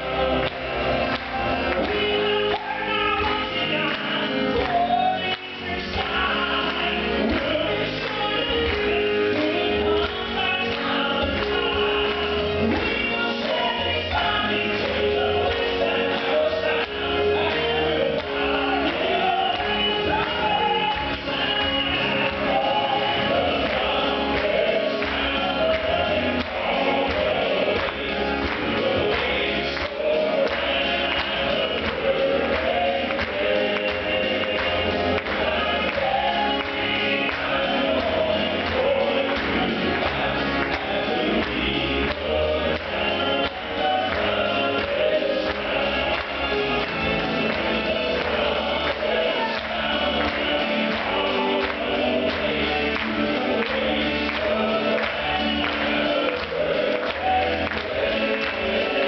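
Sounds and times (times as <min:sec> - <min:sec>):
band accompaniment: 0:00.0 - 0:59.0
voices singing in harmony: 0:00.0 - 0:59.0.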